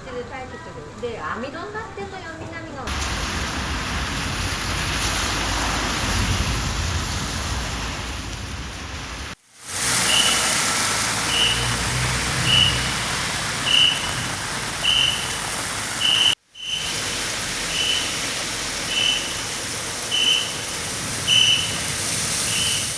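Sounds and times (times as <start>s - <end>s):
heavy rain pouring: 2.9s - 22.9s.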